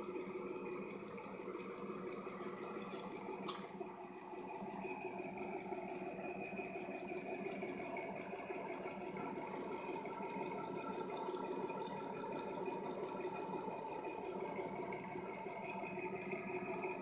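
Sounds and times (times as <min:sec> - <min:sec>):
drill press motor hum: 0:00.0 - 0:17.0.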